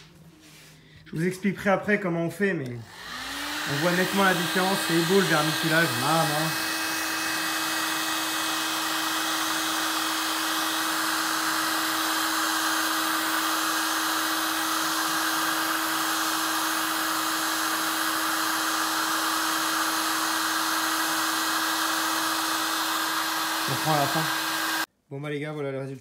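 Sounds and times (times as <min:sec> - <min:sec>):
heat gun blowing: 0:02.7 - 0:24.9.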